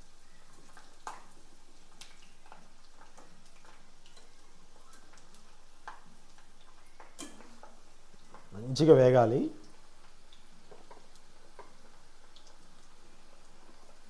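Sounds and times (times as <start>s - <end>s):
oil popping and crackling: 0.0s - 14.0s
peanuts frying in hot oil: 0.0s - 14.0s.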